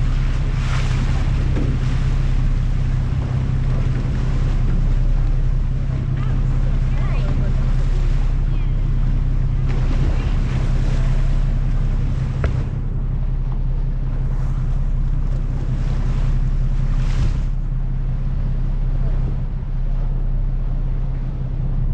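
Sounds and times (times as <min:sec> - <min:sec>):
boat engine droning: 0:00.0 - 0:21.9
water along hull: 0:00.0 - 0:21.9
wind on microphone: 0:00.0 - 0:21.9.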